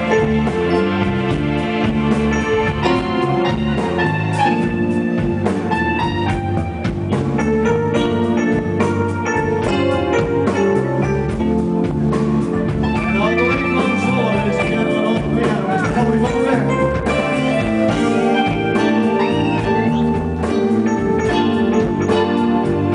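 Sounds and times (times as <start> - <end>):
keyboard solo: 0.0 - 22.9
steady drums: 0.0 - 22.9.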